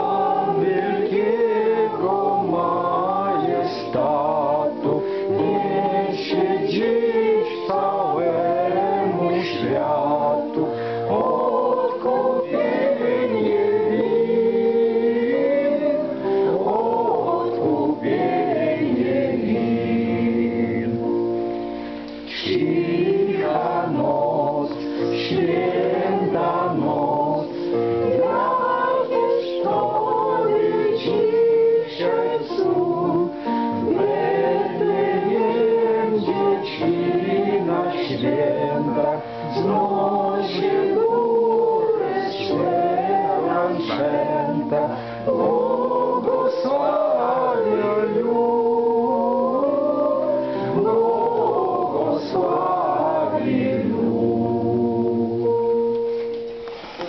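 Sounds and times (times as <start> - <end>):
mixed choir singing a carol: 0.0 - 55.9.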